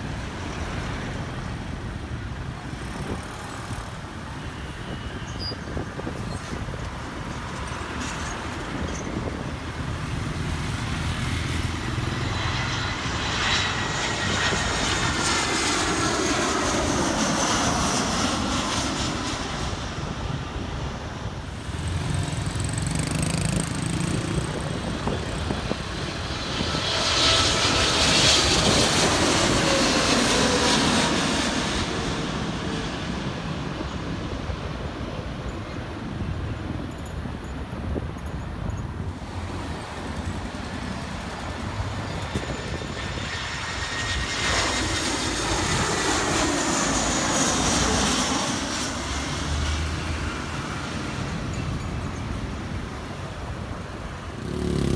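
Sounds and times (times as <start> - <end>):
jet airliner passing low: 0.0 - 54.9.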